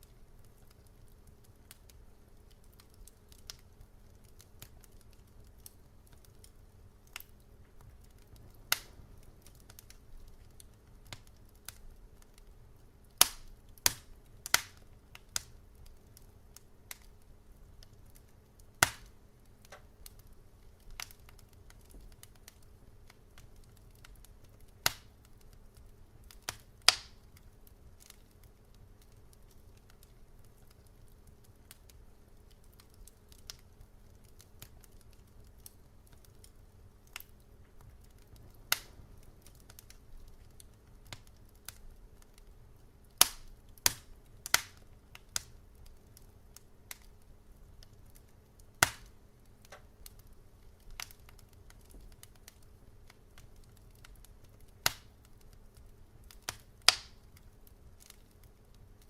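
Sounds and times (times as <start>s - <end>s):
faint low hiss: 0.0s - 59.0s
wood fire crackling: 0.0s - 59.0s.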